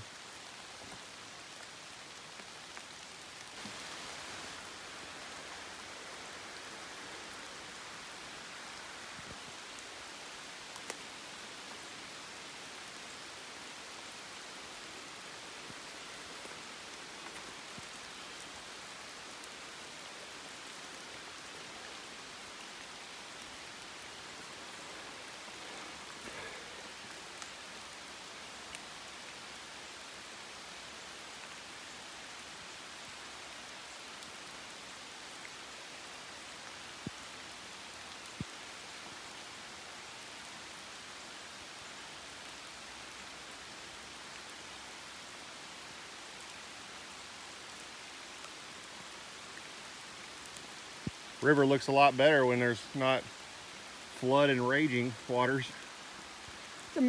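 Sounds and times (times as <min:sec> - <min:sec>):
rain falling on river: 0:00.0 - 0:57.0.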